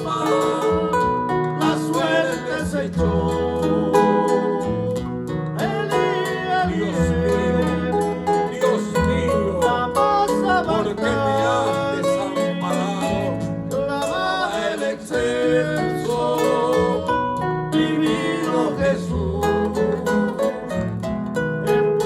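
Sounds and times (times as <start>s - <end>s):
steady bass line: 0.0s - 14.6s, 18.8s - 22.0s
plucked string instruments: 0.0s - 22.0s.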